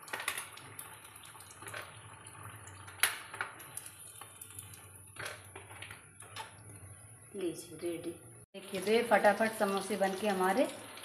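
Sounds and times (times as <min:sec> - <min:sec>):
food sizzling in hot oil: 0:00.0 - 0:07.8, 0:08.6 - 0:11.0.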